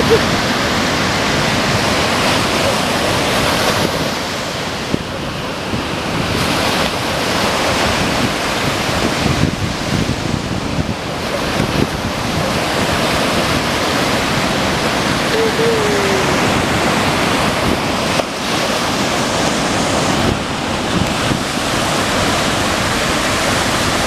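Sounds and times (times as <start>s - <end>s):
ocean surf rushing onto beach: 0.0s - 24.0s
wind buffeting microphone: 0.0s - 24.0s.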